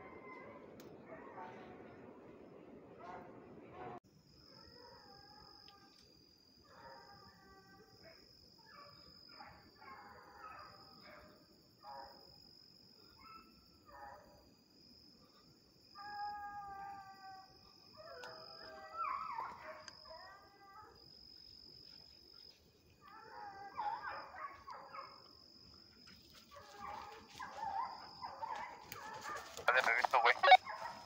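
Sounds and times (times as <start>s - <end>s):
dogs baying and howling: 0.0s - 2.1s, 3.0s - 6.0s, 6.6s - 12.4s, 13.0s - 14.4s, 15.2s - 31.0s.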